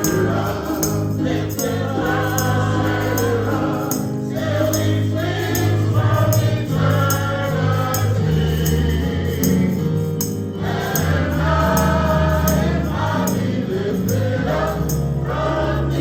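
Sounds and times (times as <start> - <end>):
congregation singing a hymn: 0.0 - 16.0
tambourine beat: 0.0 - 16.0.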